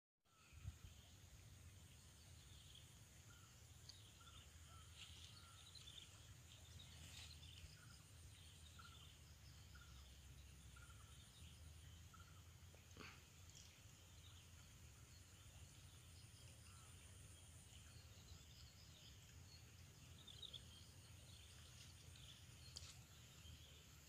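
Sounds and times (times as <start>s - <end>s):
bird chirping: 0.3s - 24.0s.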